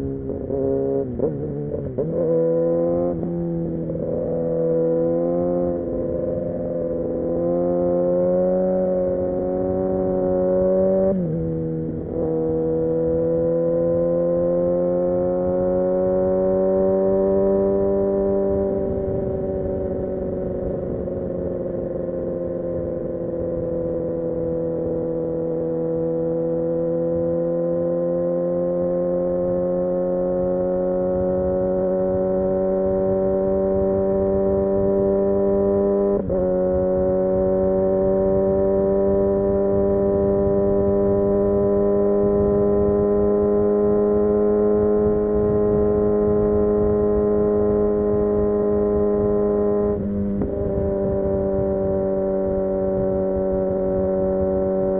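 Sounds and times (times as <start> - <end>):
motorcycle engine and exhaust: 0.0 - 54.9.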